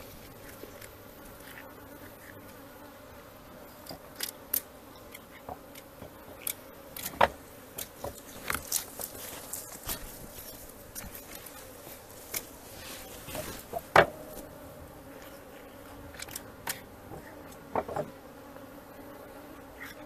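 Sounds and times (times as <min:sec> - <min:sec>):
bee swarm humming: 0:00.0 - 0:20.0.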